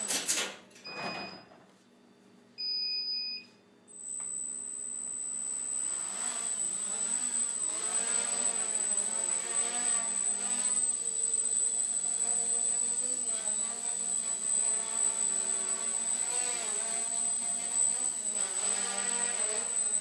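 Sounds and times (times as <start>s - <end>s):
quadcopter motors whining: 4.0s - 20.0s.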